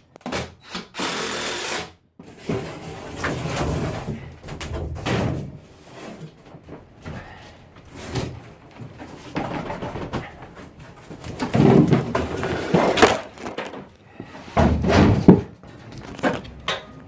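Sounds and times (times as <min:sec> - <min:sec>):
knocks and scrapes on plywood floor: 0:02.2 - 0:16.8.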